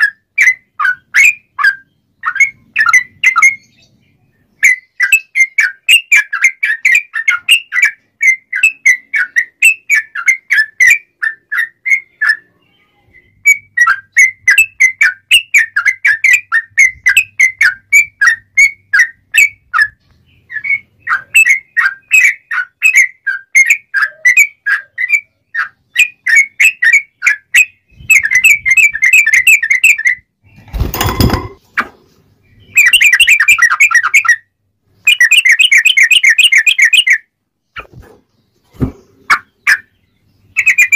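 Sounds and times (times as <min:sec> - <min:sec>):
bulbul singing: 0:00.0 - 0:31.6, 0:32.4 - 0:40.9.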